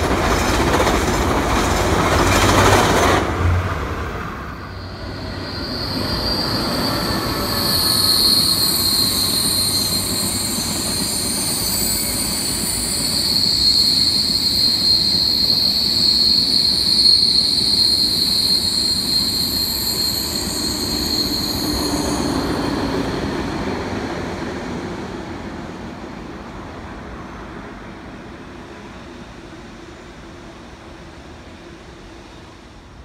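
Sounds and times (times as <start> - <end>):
high-pitched train whine: 0.0 - 33.0
train rumbling past: 0.0 - 33.0.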